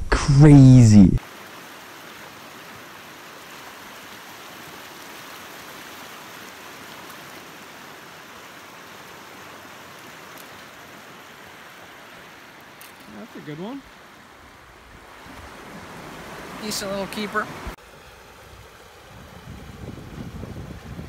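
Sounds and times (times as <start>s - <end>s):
water rushing: 0.4s - 21.0s.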